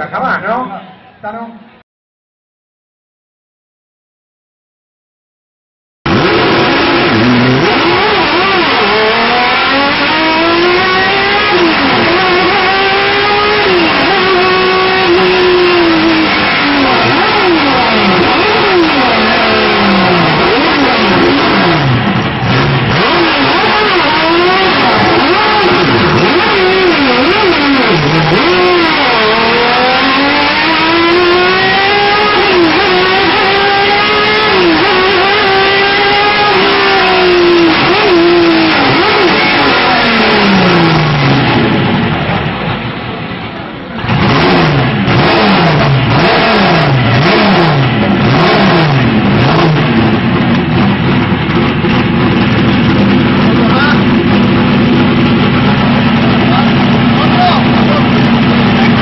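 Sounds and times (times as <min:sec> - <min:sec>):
race car engine revving: 0:06.1 - 0:59.0.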